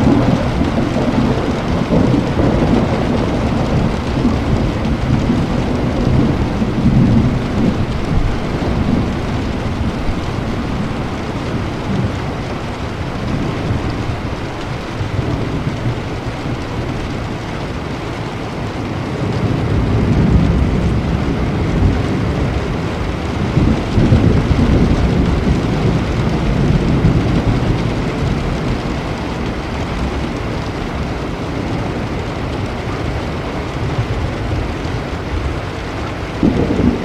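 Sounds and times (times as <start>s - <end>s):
low rolling thunder: 0.0s - 37.0s
steady rain: 0.0s - 37.0s.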